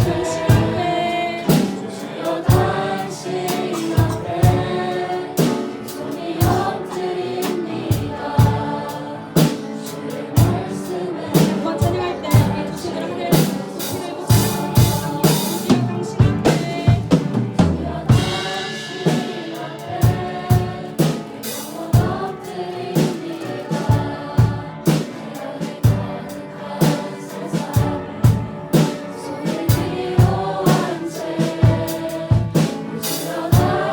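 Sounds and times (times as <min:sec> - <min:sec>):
drum kit beat: 0:00.0 - 0:33.9
live worship band playing: 0:00.0 - 0:33.9
piano: 0:00.0 - 0:33.9
singers: 0:00.0 - 0:33.9.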